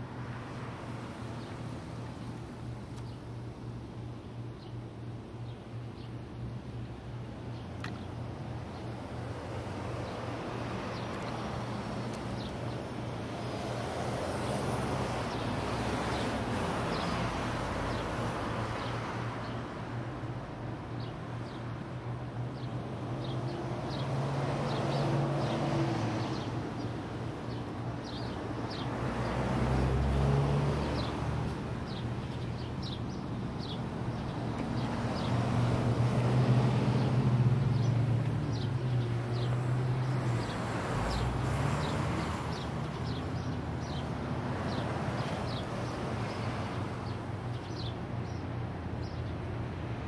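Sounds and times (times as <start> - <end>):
small birds chirping: 1.4 - 3.4, 4.2 - 19.7, 20.9 - 36.3, 36.9 - 49.5.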